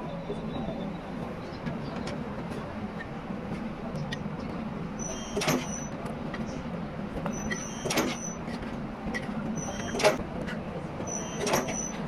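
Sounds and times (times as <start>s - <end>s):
factory machinery humming: 0.0s - 12.0s.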